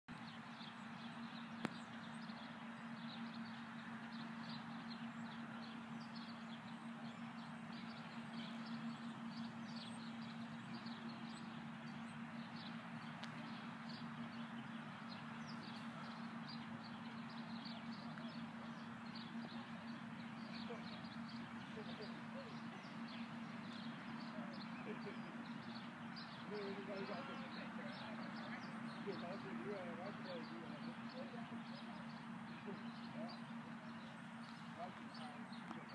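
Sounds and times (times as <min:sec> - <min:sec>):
birds chirping: 0:00.1 - 0:35.9
steady low hum: 0:00.1 - 0:35.9.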